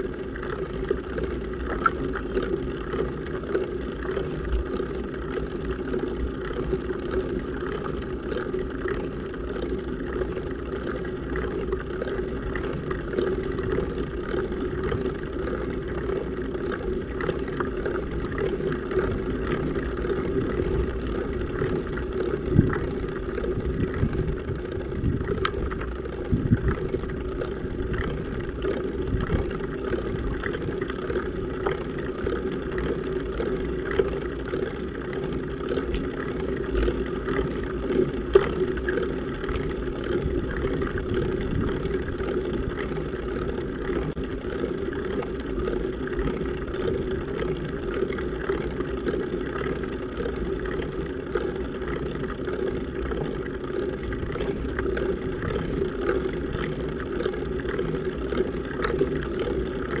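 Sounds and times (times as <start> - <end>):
bicycle road noise rumbling: 0.0 - 60.0.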